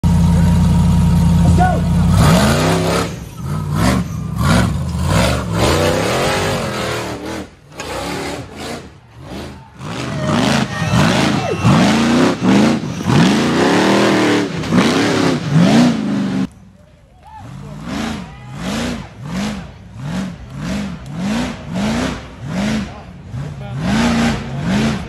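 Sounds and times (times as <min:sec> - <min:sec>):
buggy engine revving: 0:00.0 - 0:16.6, 0:17.2 - 0:25.0.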